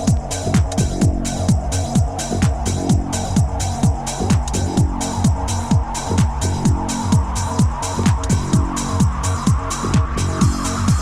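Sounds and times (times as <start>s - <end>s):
bass line: 0.0s - 11.0s
hi-hat hits: 0.0s - 11.0s
kick drum: 0.0s - 11.0s.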